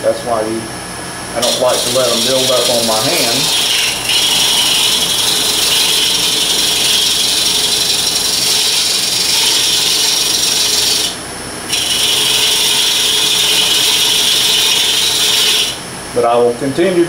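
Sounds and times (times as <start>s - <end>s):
wood lathe running: 1.3s - 15.8s
gouge hissing on spinning wood: 1.4s - 15.8s.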